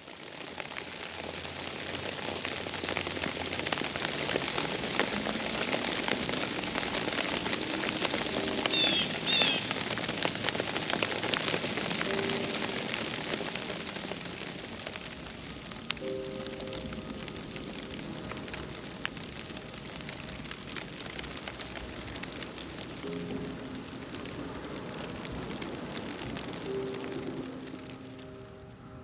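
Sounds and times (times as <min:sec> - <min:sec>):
rain pattering on surfaces: 0:00.0 - 0:29.0.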